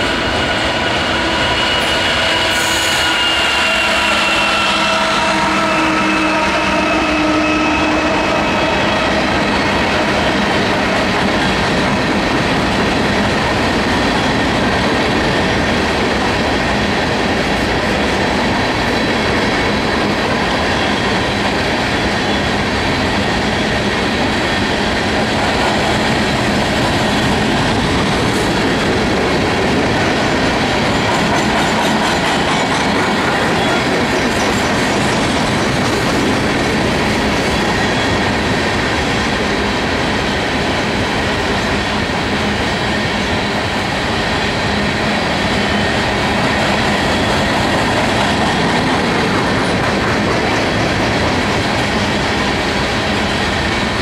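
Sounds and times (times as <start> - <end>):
freight train wheels clickety-clack: 0.0 - 54.0.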